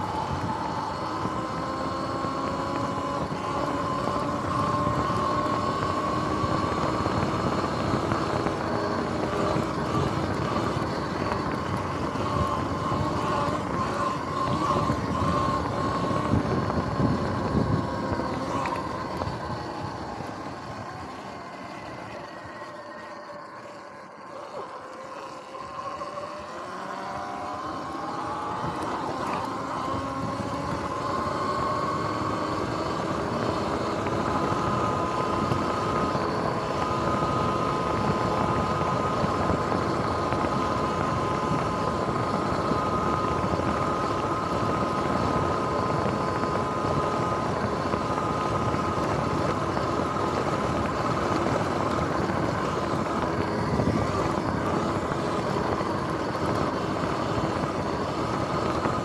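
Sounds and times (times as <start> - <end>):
electric motor whine: 0.0 - 59.0
tyre noise: 0.0 - 59.0.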